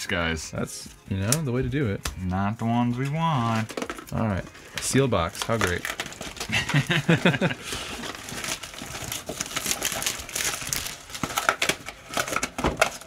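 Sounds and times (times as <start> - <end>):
cardboard packaging rustling: 2.4 - 13.0
plastic wrap crinkling: 2.5 - 13.0.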